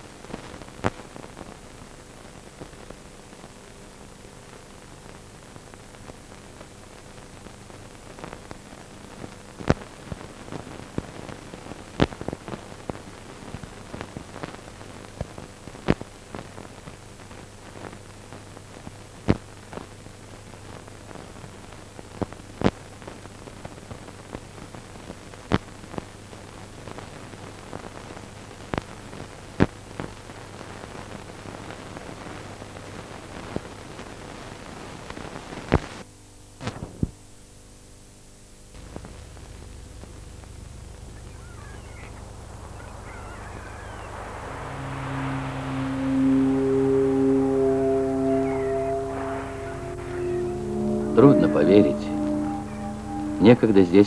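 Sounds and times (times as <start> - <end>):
film soundtrack hiss and hum: 0.0 - 54.0.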